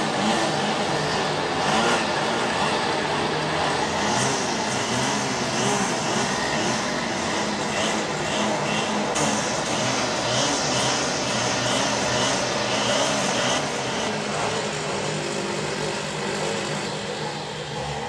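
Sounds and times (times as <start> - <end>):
string trimmer engine running: 0.0 - 18.0.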